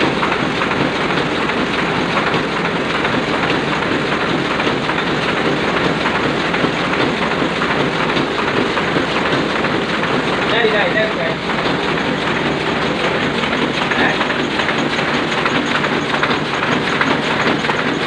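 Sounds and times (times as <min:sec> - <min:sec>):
printing press clattering: 0:00.0 - 0:18.0.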